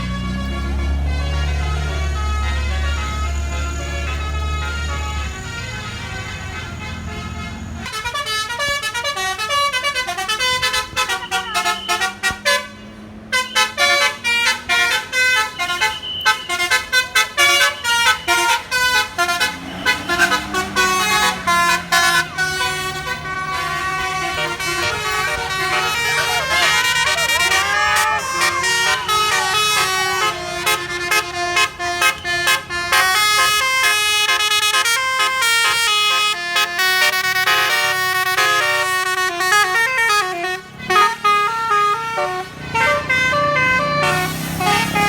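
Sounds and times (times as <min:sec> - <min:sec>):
bus air horn melody: 0:00.0 - 0:45.0
bus engine running: 0:00.0 - 0:45.0.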